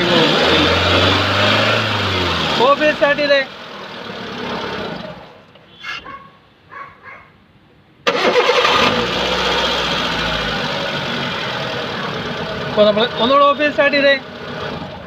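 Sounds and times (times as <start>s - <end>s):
car engine starting and idling: 0.0s - 5.6s, 8.0s - 15.0s.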